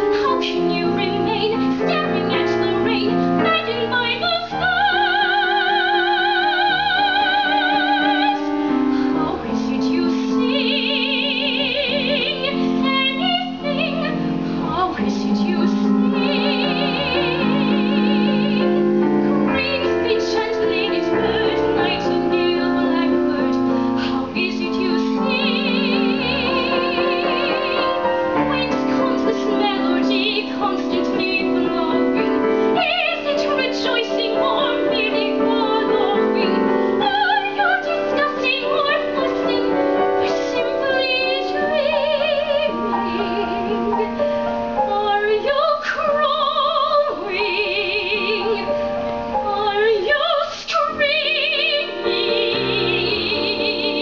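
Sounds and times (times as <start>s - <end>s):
piano: 0.0s - 54.0s
woman singing soprano: 0.0s - 54.0s.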